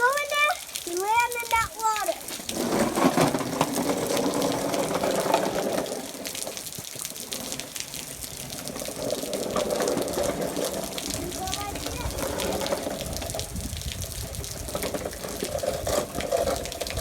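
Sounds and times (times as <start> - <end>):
rain drops ticking: 0.0 - 17.0
rushing water: 0.0 - 17.0.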